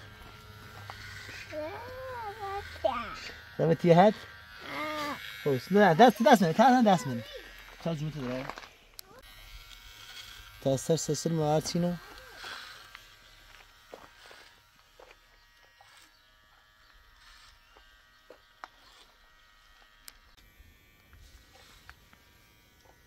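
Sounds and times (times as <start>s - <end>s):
electric hair clippers running: 0.0s - 23.0s.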